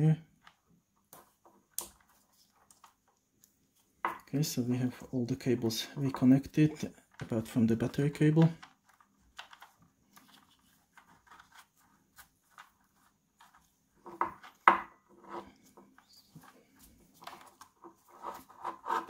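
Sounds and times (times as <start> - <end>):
wires and plastic connectors handled: 0.4 - 4.4, 6.0 - 14.7, 15.4 - 19.0.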